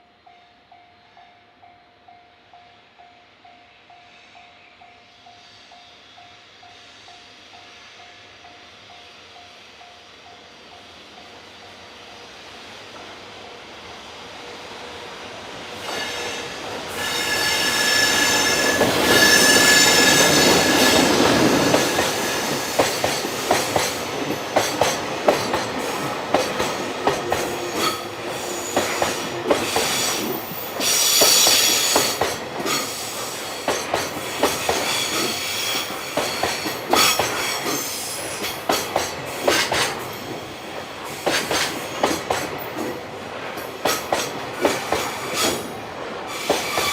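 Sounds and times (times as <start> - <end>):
freight train passing: 0.0 - 46.9.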